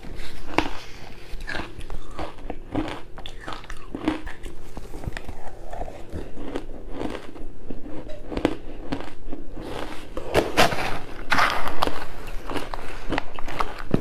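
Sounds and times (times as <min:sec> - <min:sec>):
ice crunching being chewed: 0:00.0 - 0:14.0.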